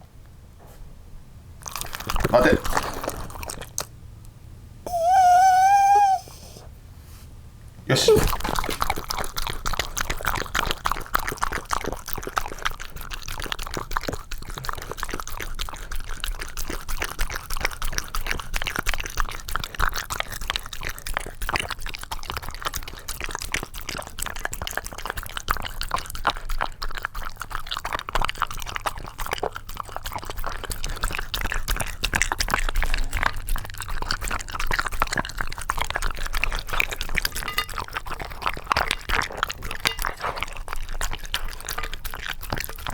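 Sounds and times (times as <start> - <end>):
dog licking and lapping: 1.6 - 4.0, 8.0 - 42.9.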